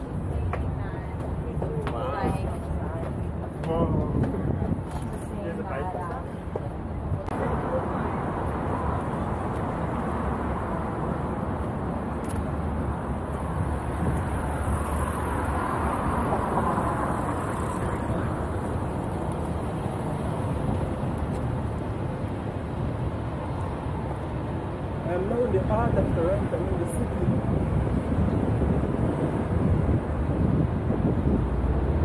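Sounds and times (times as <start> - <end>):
traffic: 0.0 - 32.0.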